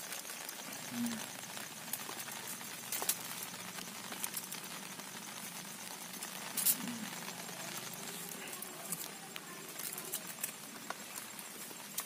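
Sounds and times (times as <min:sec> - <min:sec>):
leaf parcel rustling in embers: 0:00.0 - 0:12.0
sharp crackle: 0:00.0 - 0:12.0.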